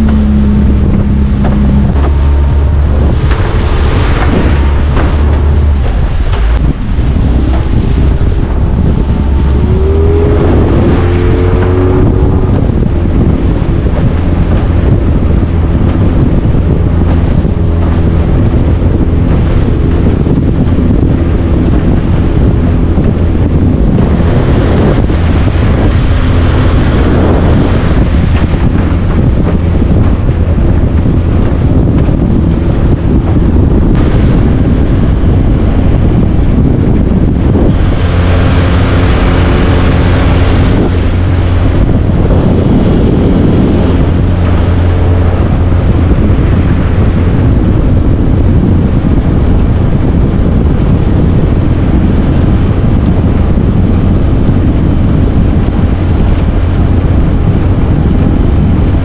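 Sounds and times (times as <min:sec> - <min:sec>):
motorboat engine running: 0:00.0 - 0:59.0
rush of wind and water: 0:00.0 - 0:59.0
wind buffeting microphone: 0:00.0 - 0:59.0.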